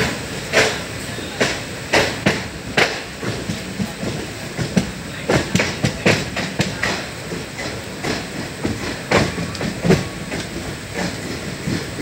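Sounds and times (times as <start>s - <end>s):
train coach rumble: 0.0s - 12.0s
train wheels clacking over rail joints: 0.0s - 12.0s.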